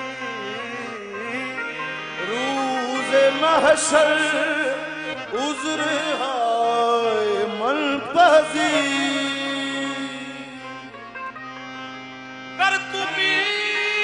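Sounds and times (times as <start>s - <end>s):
harmonium notes: 0.0s - 14.0s
man singing ornamented phrases: 0.1s - 11.0s, 12.5s - 14.0s.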